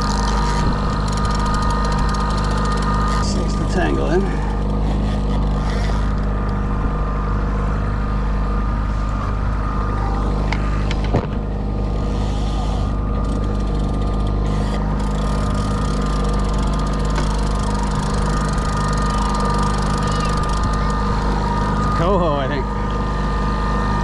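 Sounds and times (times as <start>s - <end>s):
boat motor droning: 0.0s - 24.0s
thin whine: 0.0s - 24.0s.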